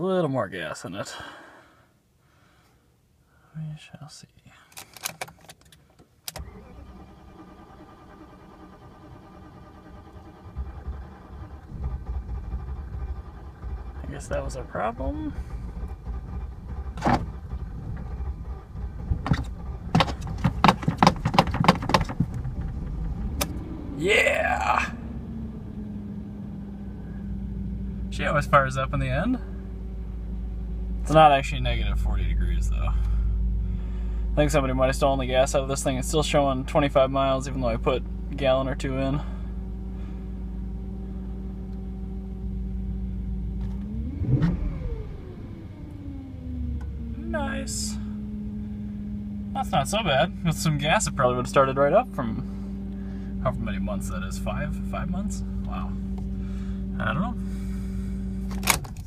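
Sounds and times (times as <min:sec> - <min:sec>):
car engine running: 0:06.4 - 0:59.0.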